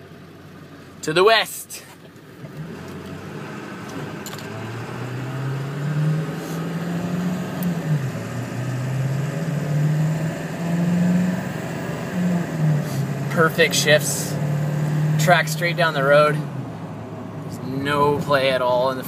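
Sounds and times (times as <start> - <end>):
diesel engine accelerating: 0.0 - 19.0.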